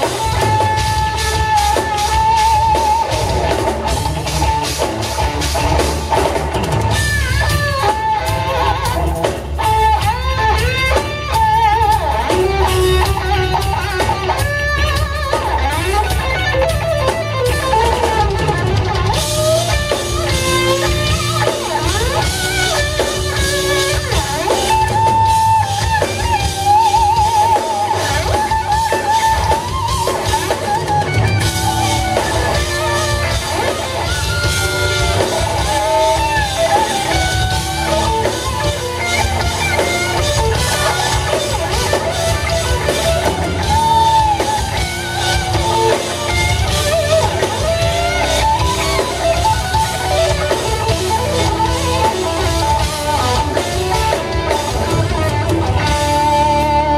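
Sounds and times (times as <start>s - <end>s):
lead electric guitar: 0.0s - 56.9s
rock band playing: 0.0s - 56.9s.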